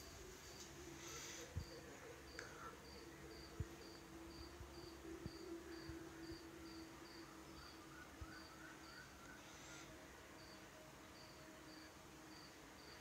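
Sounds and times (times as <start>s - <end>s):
faint steady hum: 0.0s - 13.0s
cricket chirping: 0.1s - 13.0s.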